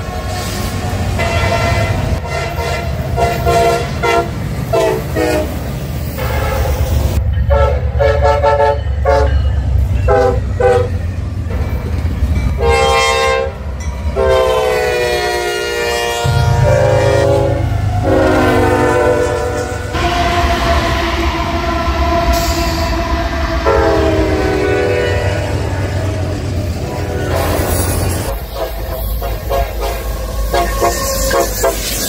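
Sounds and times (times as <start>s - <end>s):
low rumble of passing train: 0.0s - 32.0s
locomotive air horn blasts: 1.2s - 5.6s, 6.2s - 11.0s, 12.6s - 32.0s.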